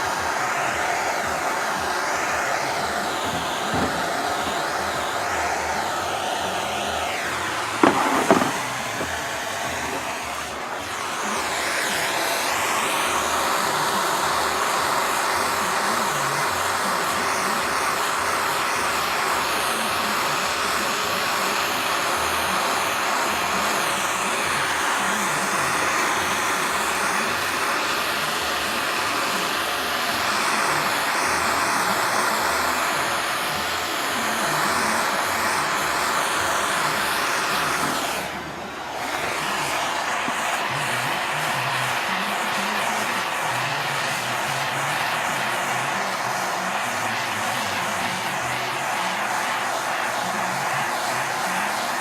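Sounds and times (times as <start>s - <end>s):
torch flame hissing: 0.0s - 52.0s.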